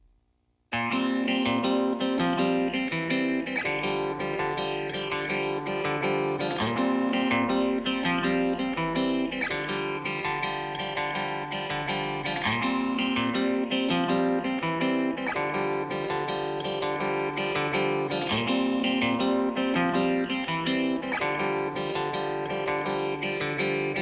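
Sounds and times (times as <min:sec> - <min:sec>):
plucked guitar music: 0:00.7 - 0:24.0.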